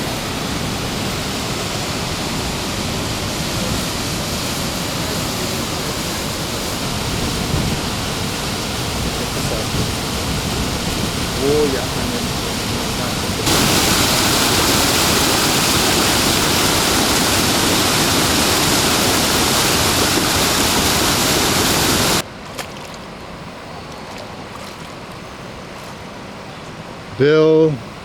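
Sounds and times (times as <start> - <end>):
waterfall roar: 0.0 - 28.0.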